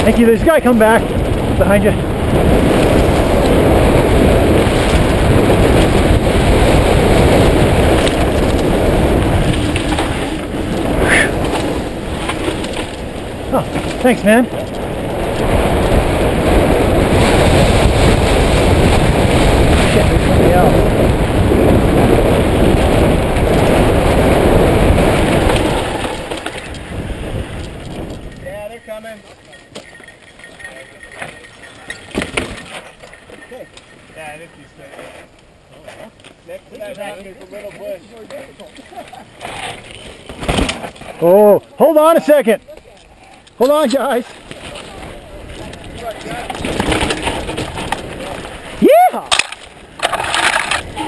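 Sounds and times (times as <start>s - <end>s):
wind buffeting microphone: 0.0s - 34.8s, 43.0s - 51.0s
bike rattling over rough ground: 0.0s - 51.0s.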